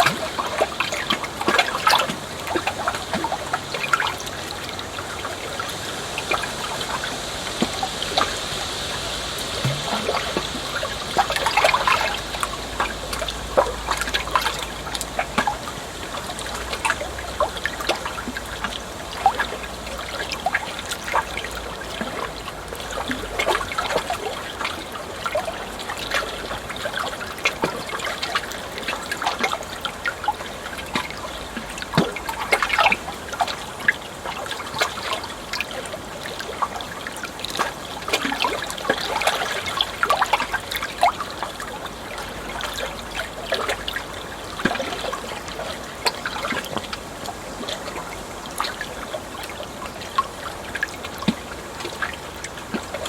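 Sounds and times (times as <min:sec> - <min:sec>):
water trickling and gurgling: 0:00.0 - 0:53.0.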